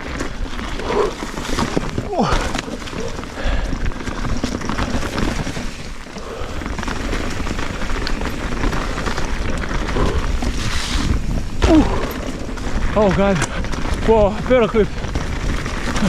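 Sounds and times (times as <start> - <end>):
bike rattling on rough trail: 0.0 - 16.0
wind rushing over microphone: 0.0 - 16.0.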